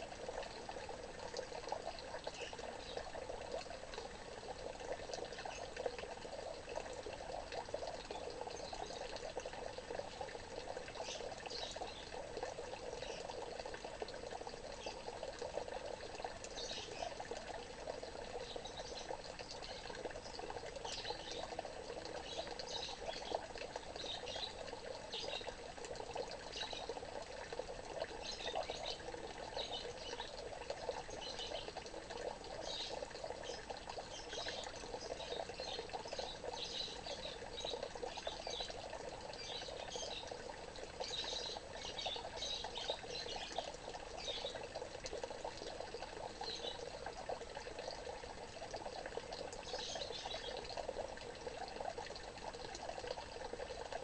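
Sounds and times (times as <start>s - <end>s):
water pouring into pond: 0.0s - 54.0s.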